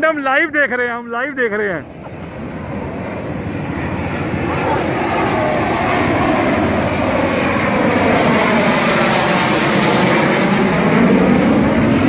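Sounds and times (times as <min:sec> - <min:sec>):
high jet whine: 0:00.0 - 0:12.0
jet engines roaring overhead: 0:00.0 - 0:12.0.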